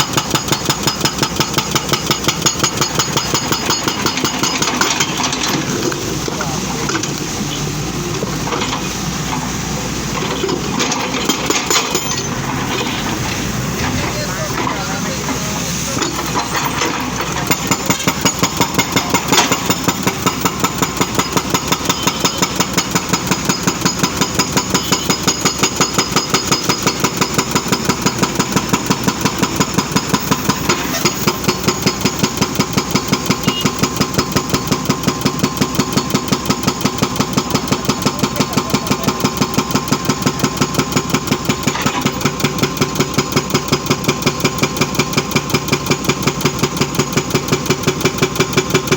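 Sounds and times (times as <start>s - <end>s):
diesel engine pulsing: 0.0s - 48.9s.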